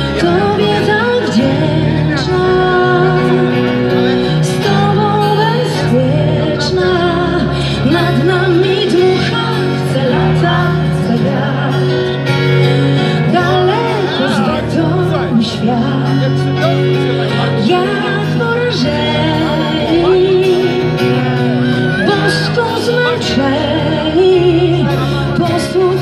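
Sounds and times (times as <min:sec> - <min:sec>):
live rock band playing: 0:00.0 - 0:26.0
woman singing: 0:00.0 - 0:26.0.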